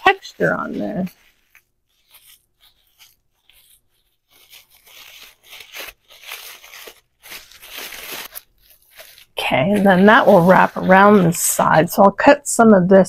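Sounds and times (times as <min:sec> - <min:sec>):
tissue paper crumpling: 0:00.0 - 0:12.1.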